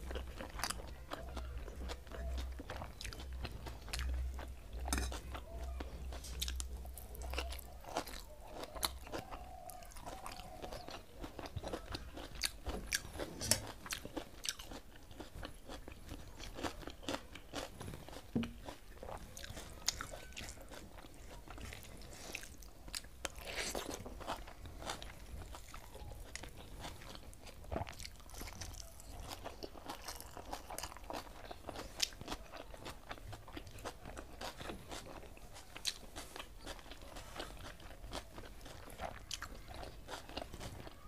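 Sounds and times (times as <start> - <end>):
mouth chewing: 0.0 - 41.0.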